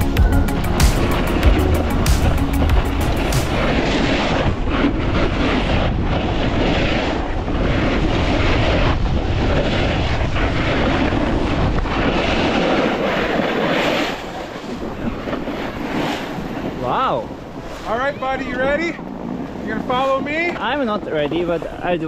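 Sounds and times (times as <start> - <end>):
skis sliding on snow: 0.0 - 22.0
wind on microphone: 0.0 - 22.0.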